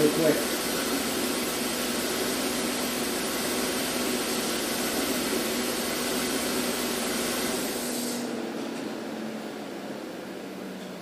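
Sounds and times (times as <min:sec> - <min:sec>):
car engine idling with misfires: 0:00.0 - 0:09.0.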